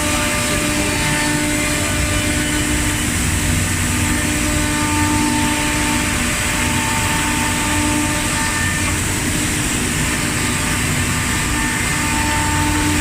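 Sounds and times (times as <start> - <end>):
wood milling machine running: 0.0 - 13.0.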